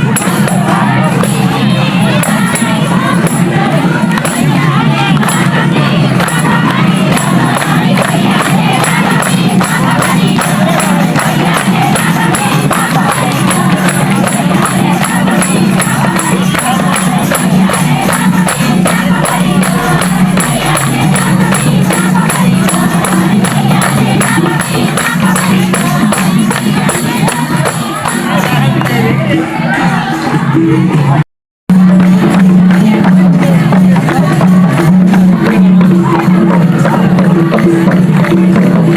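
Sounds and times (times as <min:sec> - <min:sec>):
festive dance music: 0:00.0 - 0:38.9
group singing: 0:00.0 - 0:38.9
percussive beat: 0:00.0 - 0:38.9.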